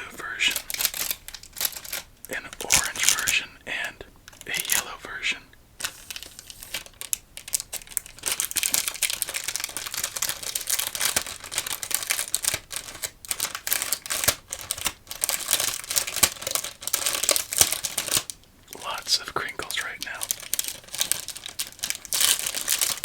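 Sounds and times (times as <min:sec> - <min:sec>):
plastic packaging crinkling: 0:00.2 - 0:03.6, 0:04.2 - 0:05.2, 0:05.8 - 0:23.0.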